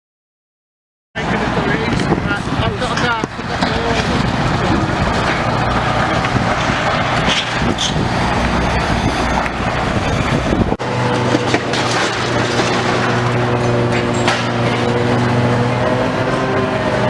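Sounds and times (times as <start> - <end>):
diesel engine hum: 1.2 - 17.0
demolition machinery clatter: 1.8 - 16.9.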